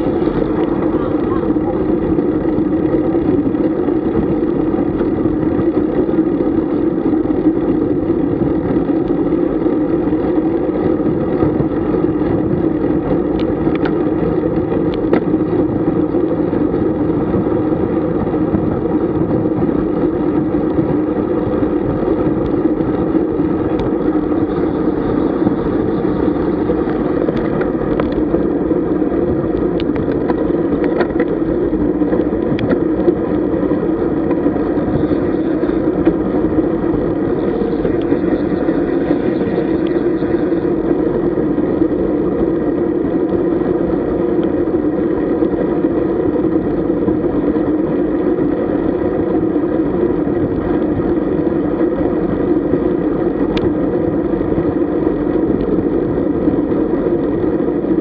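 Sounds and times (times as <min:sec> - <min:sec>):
bike tyres on road: 0:00.0 - 0:58.0
wind on microphone: 0:00.0 - 0:58.0.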